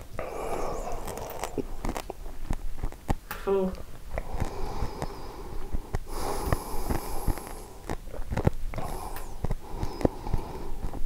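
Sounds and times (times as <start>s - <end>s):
heavy breathing through nose: 0.0s - 2.4s, 4.1s - 11.0s
man chewing: 0.0s - 3.2s, 4.0s - 11.0s
wet mouth clicks: 0.0s - 11.0s.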